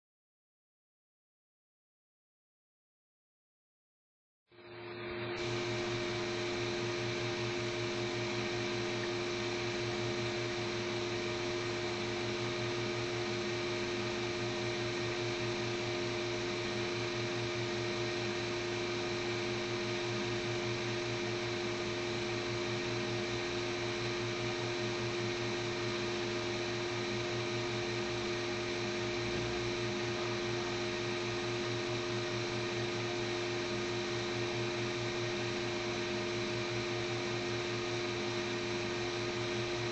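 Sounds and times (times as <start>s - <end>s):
steady hum with hiss: 4.5s - 39.9s.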